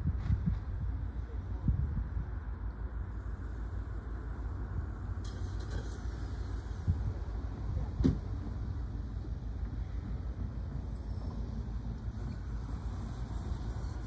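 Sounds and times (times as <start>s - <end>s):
distant locomotive rumble: 0.0s - 14.0s.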